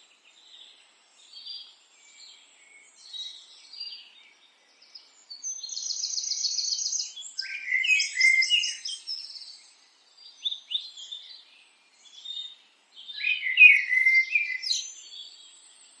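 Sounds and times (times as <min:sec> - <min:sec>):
songbird trilling and warbling: 0:00.2 - 0:16.0.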